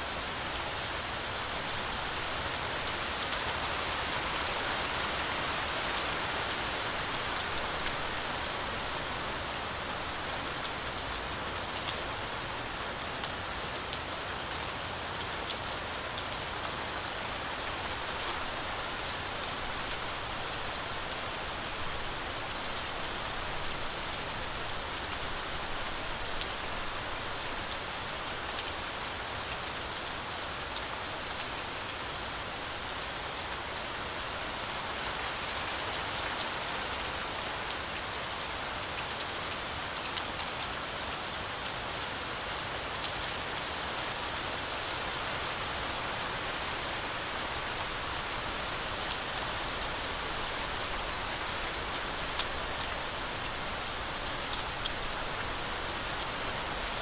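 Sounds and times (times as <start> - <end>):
heavy rain through forest canopy: 0.0 - 57.0.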